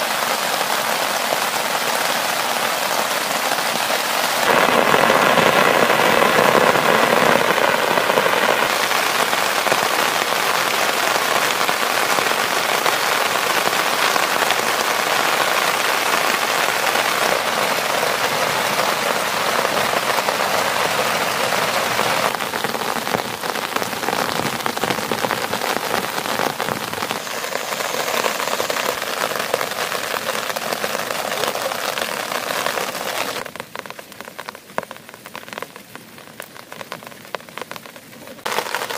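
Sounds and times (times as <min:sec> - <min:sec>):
heavy rain on tent: 0:00.0 - 0:38.9.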